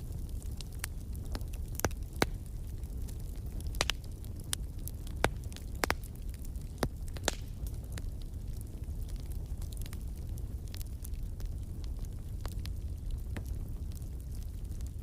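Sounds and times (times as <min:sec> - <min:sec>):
flames rumbling: 0:00.0 - 0:15.0
wood fire crackling: 0:00.0 - 0:15.0.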